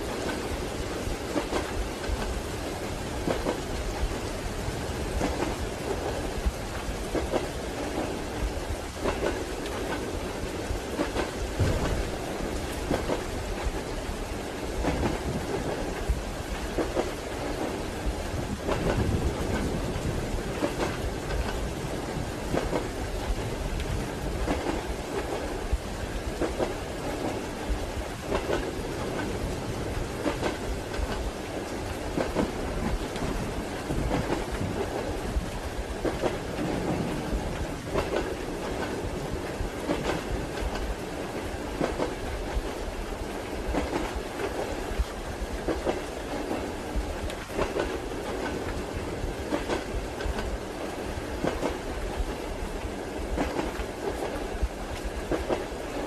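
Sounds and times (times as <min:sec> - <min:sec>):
train wheels clacking: 0:00.0 - 0:04.4, 0:05.0 - 0:56.0
steady rain: 0:00.0 - 0:56.0
train rumbling: 0:00.0 - 0:56.0.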